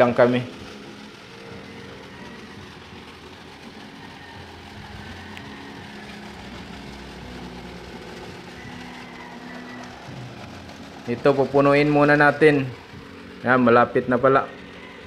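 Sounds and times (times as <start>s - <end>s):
engine idling hum: 0.0s - 15.0s
water gushing from pipe: 0.0s - 15.0s.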